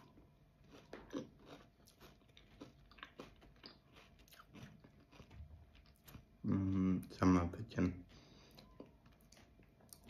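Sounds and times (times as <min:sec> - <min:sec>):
chewing crunchy chocolate: 0:00.0 - 0:07.2, 0:08.5 - 0:10.0.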